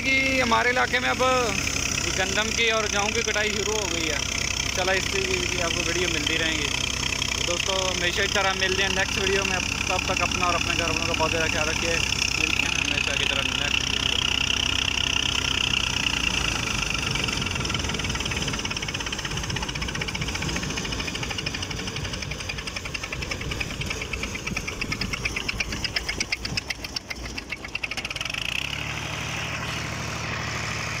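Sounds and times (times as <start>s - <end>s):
tractor diesel engine: 0.0s - 31.0s
thresher whirring and clattering: 0.5s - 31.0s.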